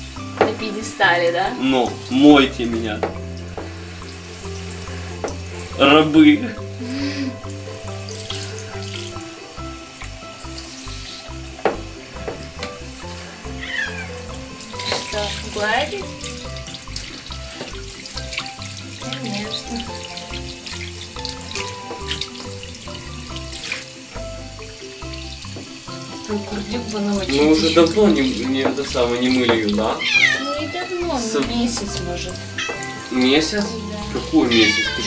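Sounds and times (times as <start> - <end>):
background music: 0.0 - 35.0
shower water spraying: 0.0 - 35.0.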